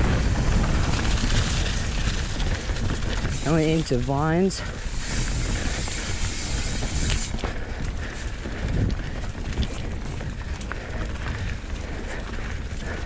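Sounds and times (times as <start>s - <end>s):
bike tyres rumbling over dirt: 0.0s - 13.0s.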